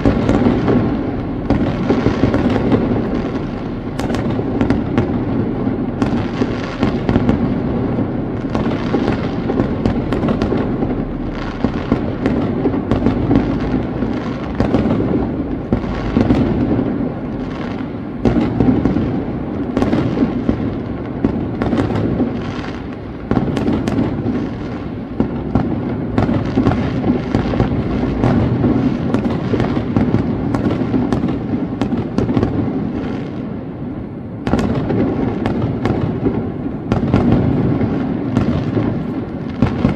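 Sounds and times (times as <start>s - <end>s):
fireworks bangs and pops: 0.0s - 39.9s
steady rumble of fireworks: 0.0s - 39.9s.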